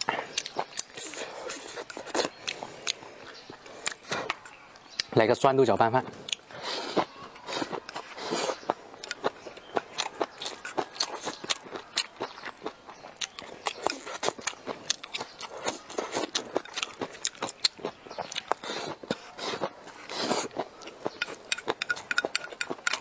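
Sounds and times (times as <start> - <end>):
chewing with lip smacks: 0.0 - 5.2, 6.0 - 23.0.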